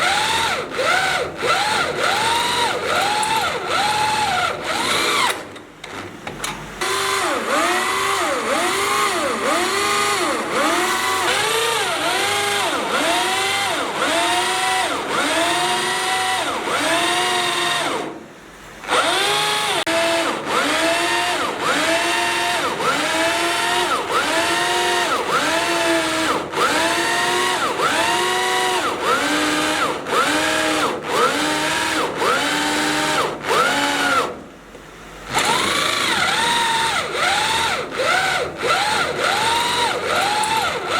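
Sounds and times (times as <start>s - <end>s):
power drill boring into steel: 0.0s - 5.5s, 6.8s - 18.1s, 18.8s - 34.4s, 35.3s - 40.9s.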